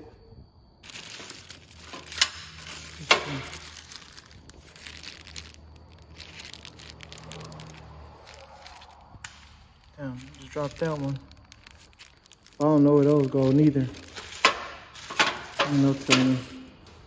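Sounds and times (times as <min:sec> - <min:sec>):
plastic bags crinkling: 0:00.8 - 0:16.8.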